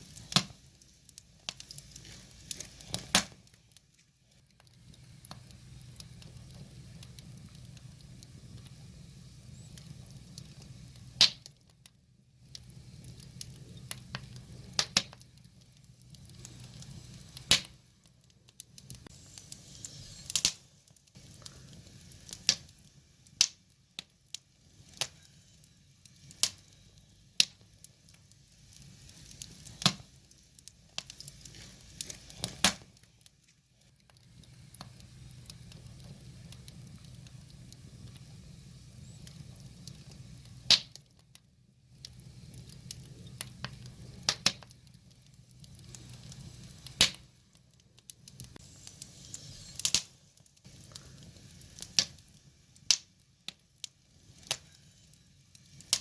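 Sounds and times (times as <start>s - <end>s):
low rush of flame: 0.0s - 56.0s
wood fire crackling: 0.0s - 56.0s.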